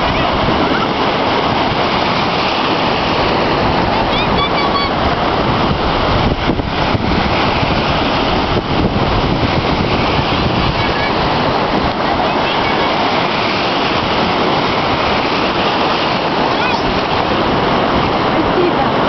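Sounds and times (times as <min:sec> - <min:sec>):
sea surf breaking on shore: 0:00.0 - 0:19.0.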